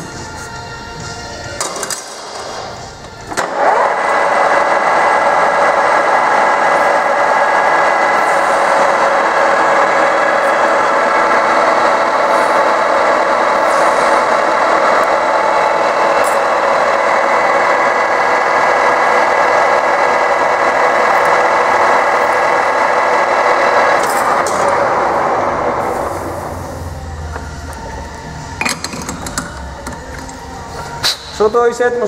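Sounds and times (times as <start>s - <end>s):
lathe gearing whine: 0.0s - 32.0s.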